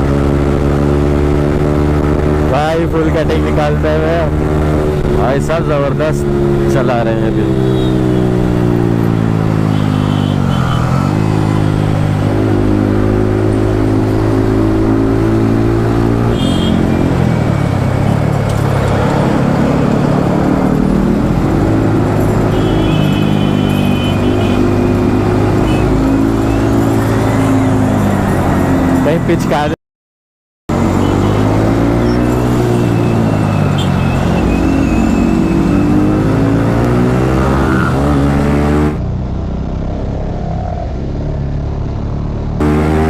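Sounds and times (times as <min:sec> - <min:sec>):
motorcycle engine cruising: 0:00.0 - 0:29.7, 0:30.7 - 0:43.0.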